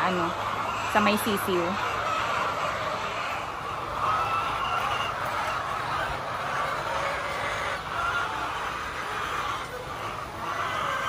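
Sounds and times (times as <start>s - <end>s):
hens clucking and calling: 0.0s - 11.0s.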